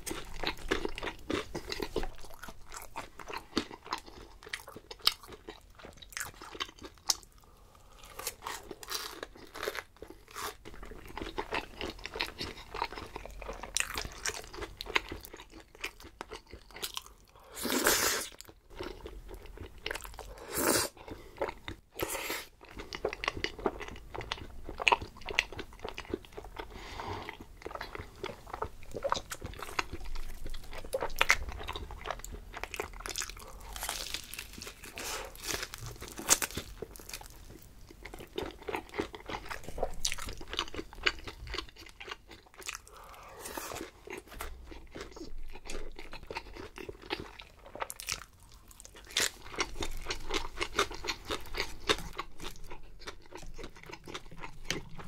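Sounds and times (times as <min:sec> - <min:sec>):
person crunching and chewing food: 0:00.0 - 0:55.0.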